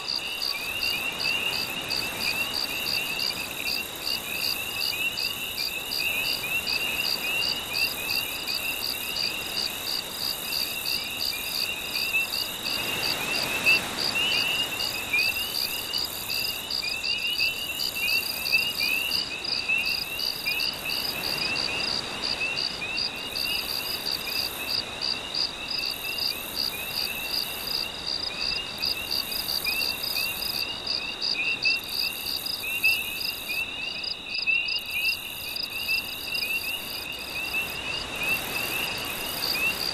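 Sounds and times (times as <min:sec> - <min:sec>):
frogs chirping: 0:00.0 - 0:39.9
insects trilling: 0:00.0 - 0:39.9.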